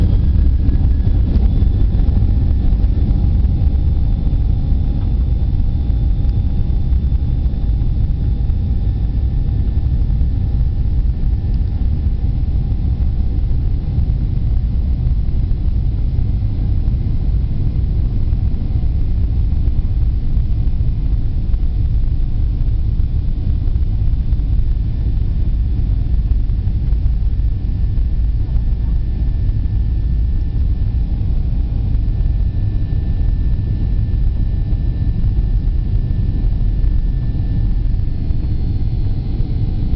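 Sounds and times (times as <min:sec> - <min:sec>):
faint engine whine: 0:00.0 - 0:39.9
jet engines rumbling in cabin: 0:00.0 - 0:39.9.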